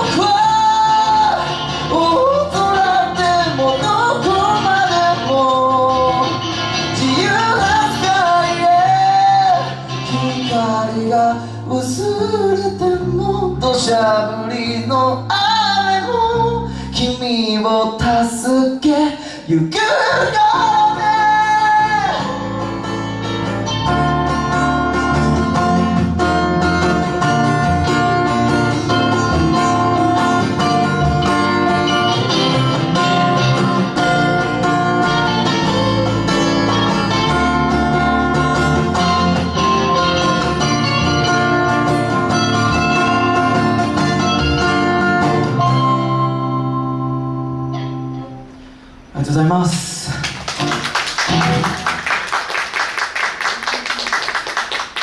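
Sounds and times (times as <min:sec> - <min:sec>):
electric bass: 0:00.0 - 0:17.2, 0:20.4 - 0:49.1
electric guitar: 0:00.0 - 0:49.1, 0:50.1 - 0:55.0
acoustic guitar: 0:00.0 - 0:55.0.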